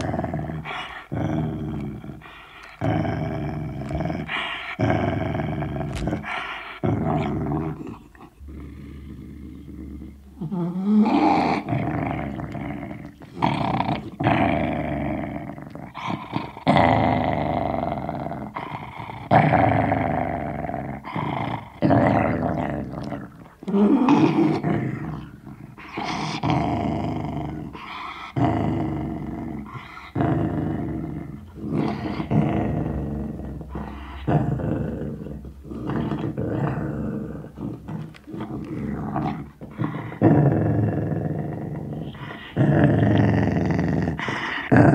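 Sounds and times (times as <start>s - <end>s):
dog growling: 0.0s - 44.9s.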